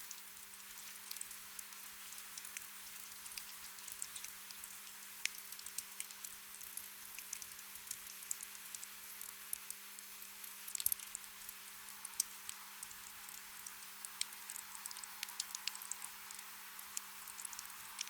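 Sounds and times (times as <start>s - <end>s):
soft rain hiss: 0.0s - 18.0s.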